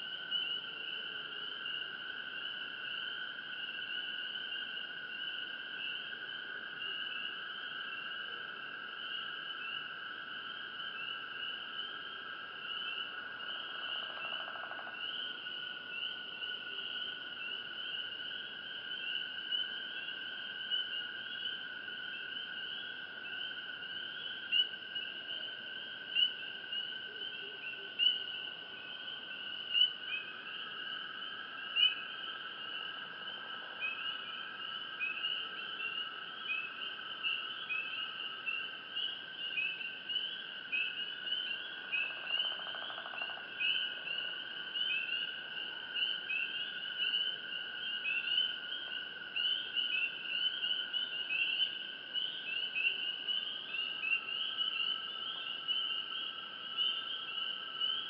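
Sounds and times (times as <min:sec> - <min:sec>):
crickets trilling: 0:00.0 - 0:58.0
louder insect call: 0:00.0 - 0:58.0
rapid cricket chirps: 0:00.0 - 0:58.0.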